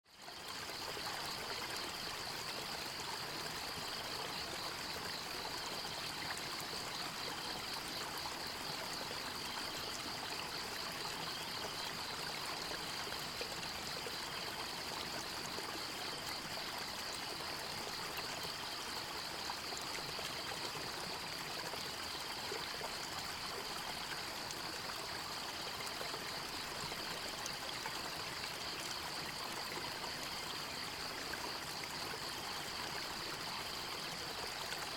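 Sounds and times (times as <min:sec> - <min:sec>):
stream running over rocks: 0:00.2 - 0:34.9.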